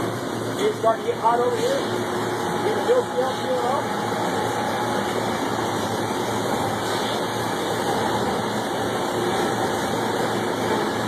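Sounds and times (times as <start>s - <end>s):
low machine hum: 0.0s - 11.0s
molten slag bubbling: 0.0s - 11.0s.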